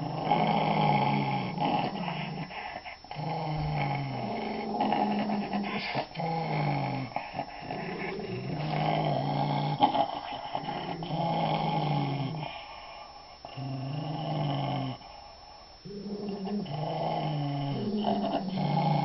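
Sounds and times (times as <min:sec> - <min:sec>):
dog growling: 0:00.0 - 0:19.0.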